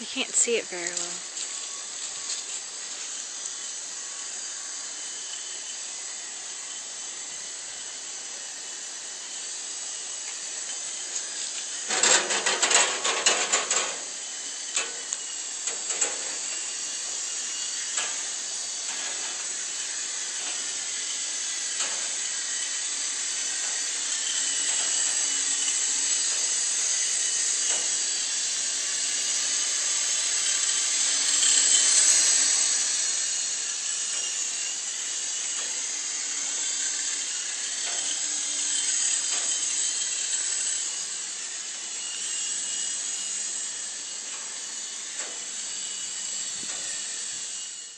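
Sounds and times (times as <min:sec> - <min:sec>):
toy helicopter rotors whirring: 0:00.0 - 0:47.9.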